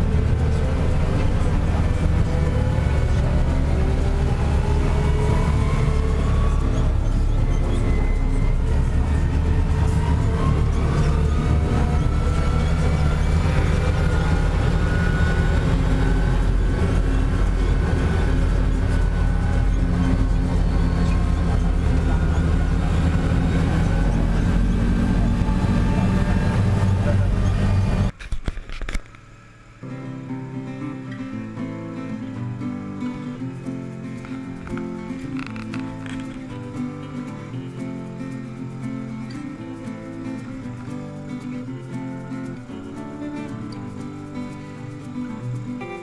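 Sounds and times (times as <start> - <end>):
tractor diesel engine droning: 0.0 - 28.2, 33.4 - 45.9.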